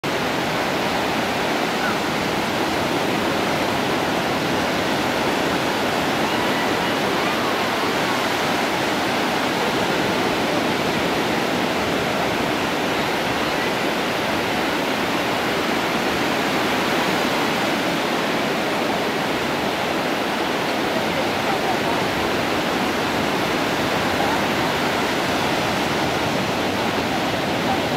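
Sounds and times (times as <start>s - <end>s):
ocean surf breaking: 0.0s - 27.9s.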